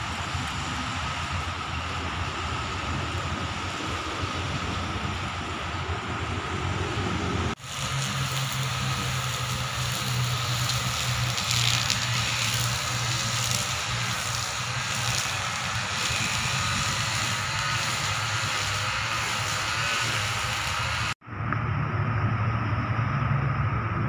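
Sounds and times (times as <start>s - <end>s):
constant low hum: 0.0s - 24.0s
wind on microphone: 0.0s - 24.0s.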